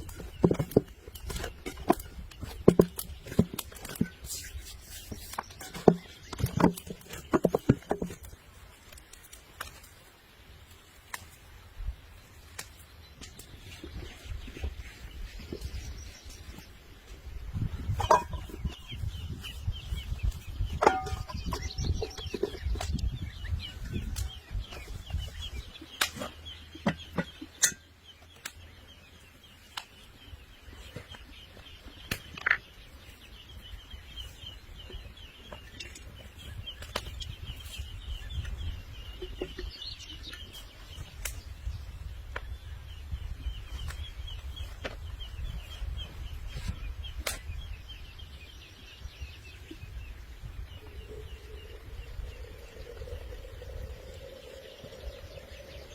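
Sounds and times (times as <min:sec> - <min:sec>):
birds chattering: 0:00.0 - 0:10.0, 0:12.2 - 0:55.9.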